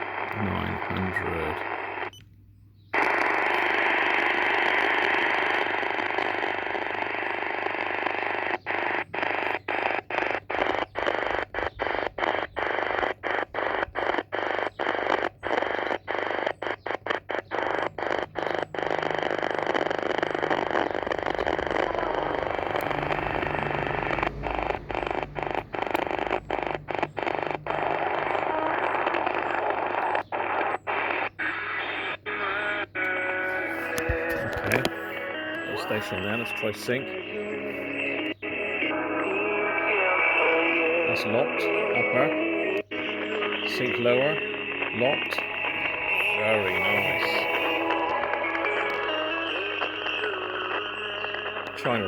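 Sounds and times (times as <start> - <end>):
shortwave radio hiss: 0.0 - 2.2, 3.0 - 52.0.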